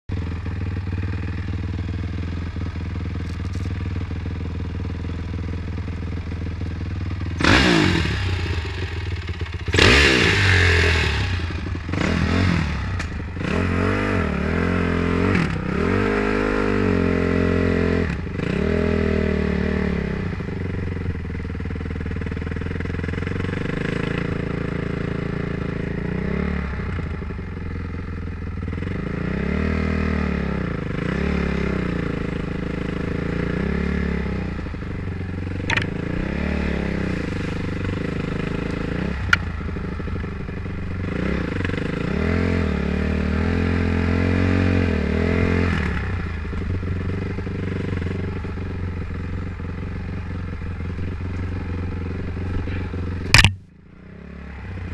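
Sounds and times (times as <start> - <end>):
dirt bike engine revving: 7.2 - 27.0, 28.6 - 54.9.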